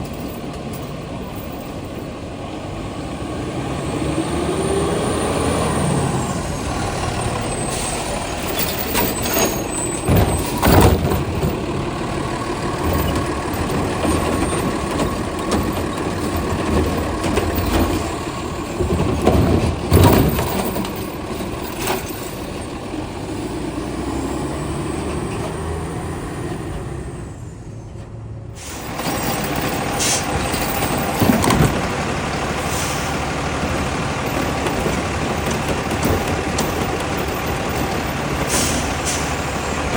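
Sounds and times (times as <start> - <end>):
garbage truck running: 0.0 - 39.9.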